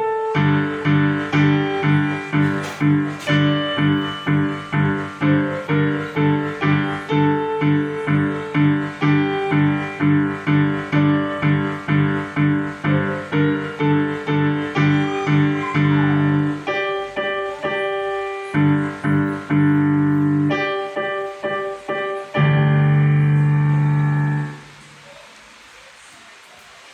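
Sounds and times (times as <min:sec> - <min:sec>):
digital piano playing: 0:00.0 - 0:25.2.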